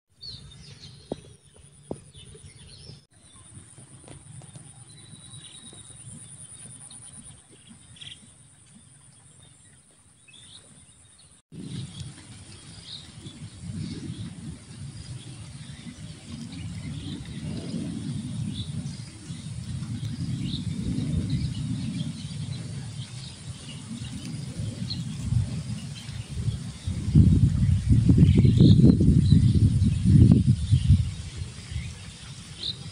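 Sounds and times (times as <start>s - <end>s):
small birds chirping: 0.2s - 32.9s.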